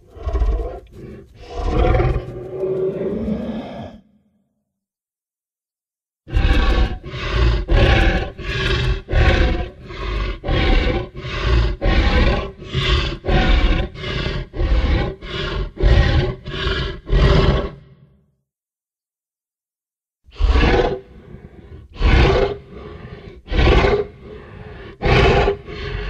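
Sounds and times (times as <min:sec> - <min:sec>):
deep roar-like dinosaur calls: 0:00.0 - 0:04.4, 0:06.3 - 0:18.2, 0:20.3 - 0:26.0.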